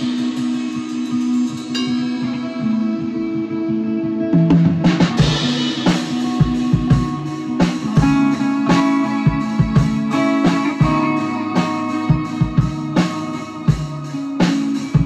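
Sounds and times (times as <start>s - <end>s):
ringing electric guitar: 0.0s - 15.0s.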